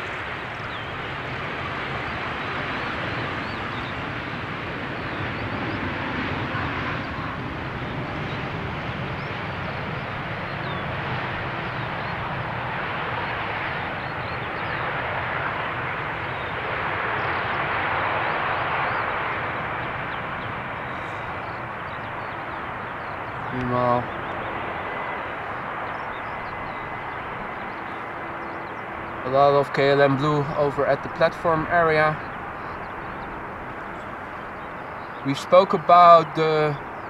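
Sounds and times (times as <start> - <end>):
jet engines rushing: 0.0 - 37.0.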